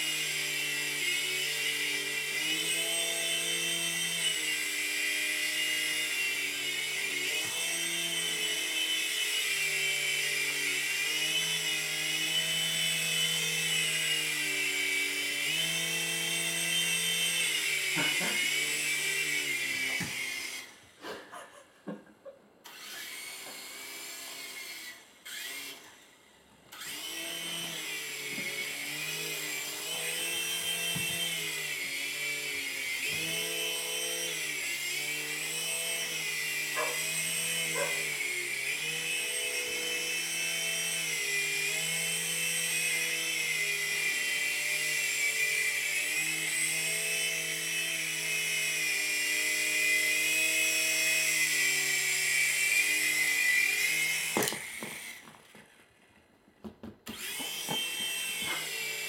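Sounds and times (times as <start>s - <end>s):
toy helicopter motor whining: 0.0s - 21.6s, 22.6s - 56.1s, 57.0s - 59.0s.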